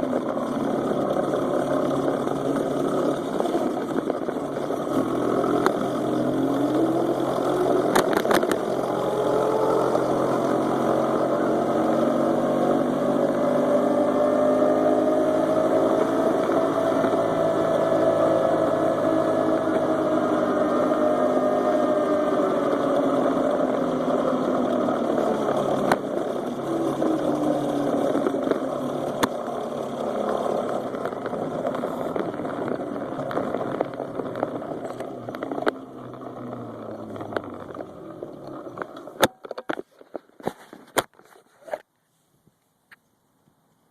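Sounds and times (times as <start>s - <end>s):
muffled small engine running: 0.0s - 41.8s.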